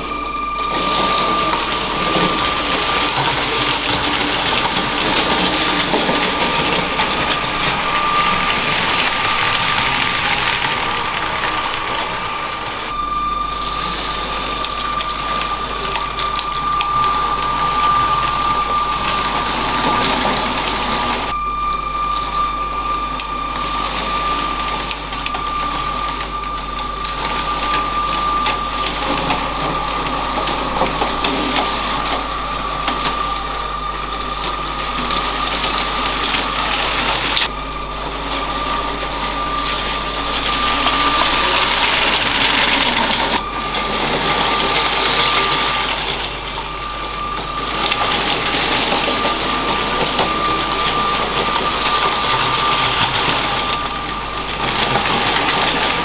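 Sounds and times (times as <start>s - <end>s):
wheels rattling over plastic track: 0.0s - 21.4s, 23.2s - 56.0s
toy train motor whining: 0.0s - 56.0s.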